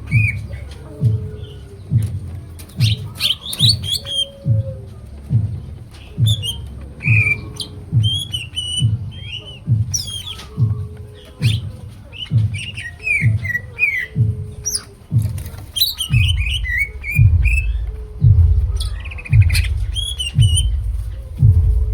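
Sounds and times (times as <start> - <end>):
bird singing whistled chirps: 0.0 - 21.9
steady low beat: 0.0 - 21.9.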